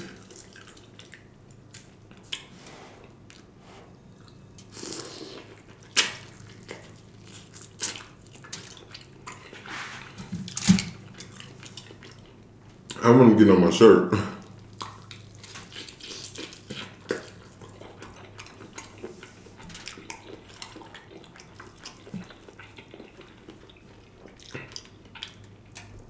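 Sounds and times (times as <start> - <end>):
person chewing meat: 0.0 - 13.0, 14.4 - 26.0.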